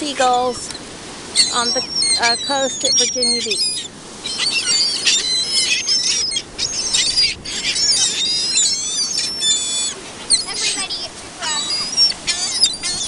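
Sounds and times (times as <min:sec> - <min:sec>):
gulls calling: 0:00.0 - 0:13.0.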